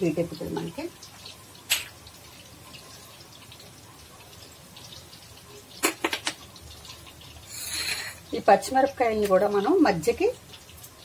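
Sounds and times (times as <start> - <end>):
oil hissing in a pan: 0.0 - 11.0.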